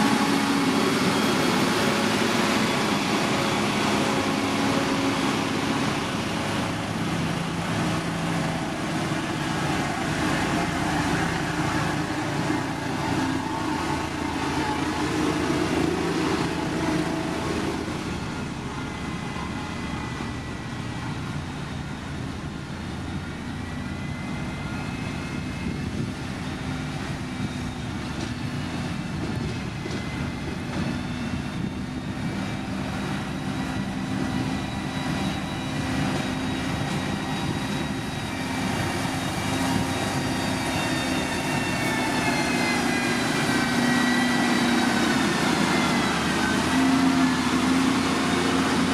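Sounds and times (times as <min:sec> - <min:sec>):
heavy machinery diesel engines: 0:00.0 - 0:48.9.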